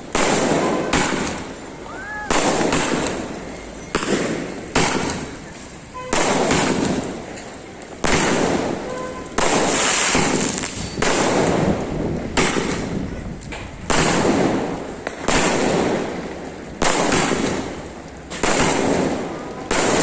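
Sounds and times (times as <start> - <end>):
firework bangs with hiss: 0.0 - 20.0.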